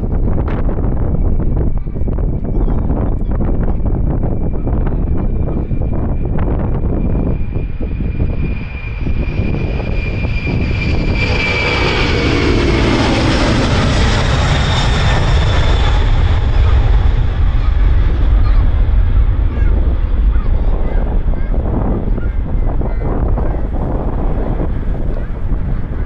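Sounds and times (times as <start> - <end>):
jet airliner taking off: 0.0 - 26.0
wind rumbling on microphone: 0.0 - 26.0.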